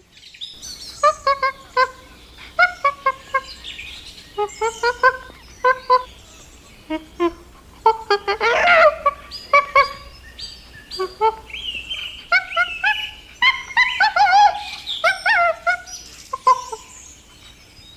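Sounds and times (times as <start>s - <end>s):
chickens calling: 0.0s - 17.9s.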